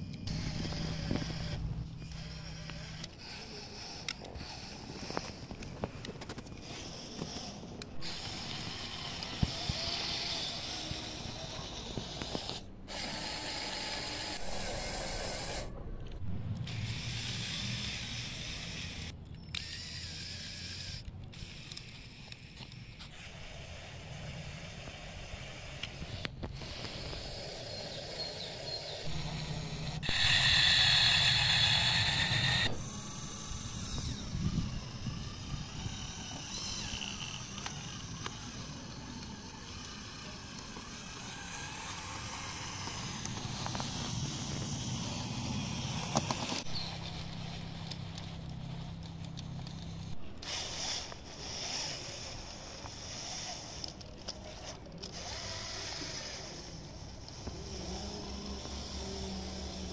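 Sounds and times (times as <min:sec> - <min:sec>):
high steady motor whine: 0:00.0 - 0:59.9
toy motors whirring and clicking: 0:00.0 - 0:59.9.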